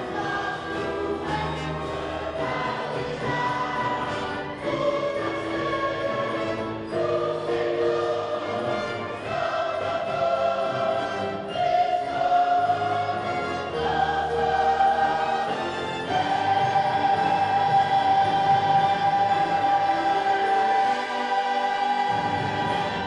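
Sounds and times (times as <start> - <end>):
choir singing: 0.0 - 23.0
wind band playing: 0.0 - 23.0.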